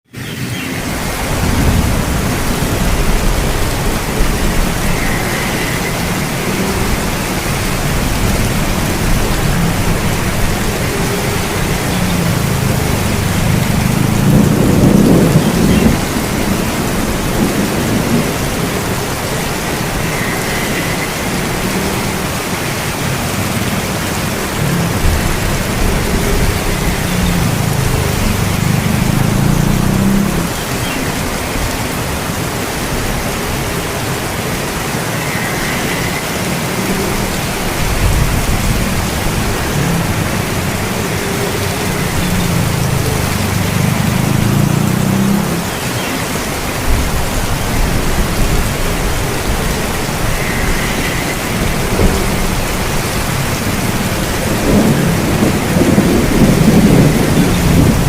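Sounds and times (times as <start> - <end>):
heavy rain falling: 0.0 - 58.0
thunder rumbling: 0.8 - 58.0.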